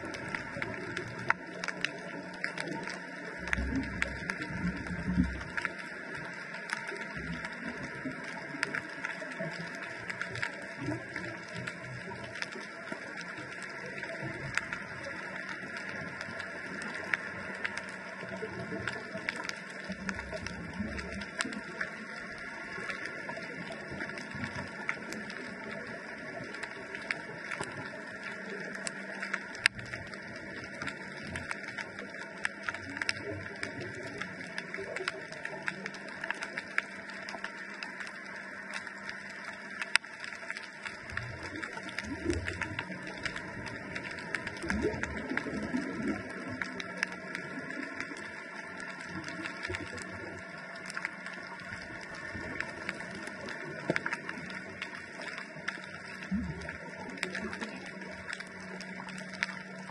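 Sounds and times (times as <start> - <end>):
sharp clicks and crackles: 0.0 - 59.9.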